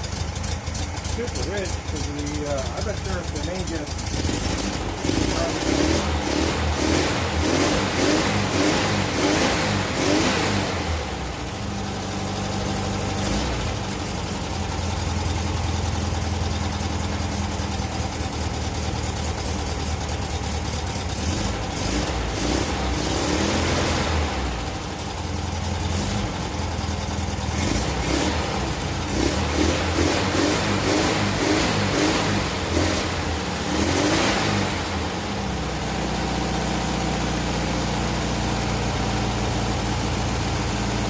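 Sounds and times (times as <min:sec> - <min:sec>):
engine idling and revving: 0:00.0 - 0:41.0.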